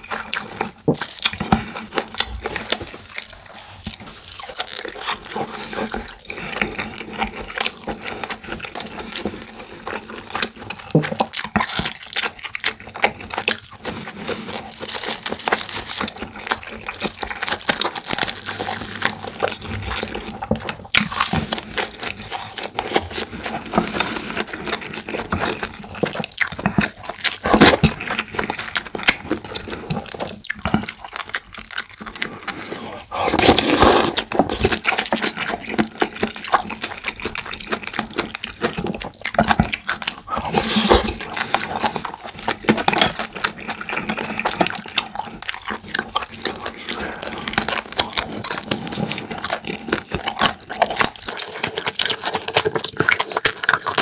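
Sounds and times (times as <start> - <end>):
person chewing with mouth clicks: 0.0 - 54.0.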